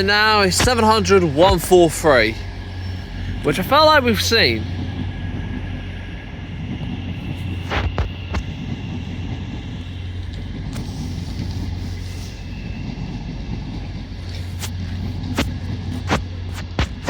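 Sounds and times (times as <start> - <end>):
faint high whine: 0.0 - 17.0
train hum and rumble: 0.0 - 17.0.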